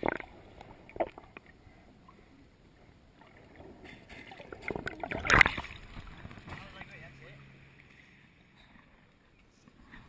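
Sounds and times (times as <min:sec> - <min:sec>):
water sloshing and lapping: 0:00.0 - 0:10.0.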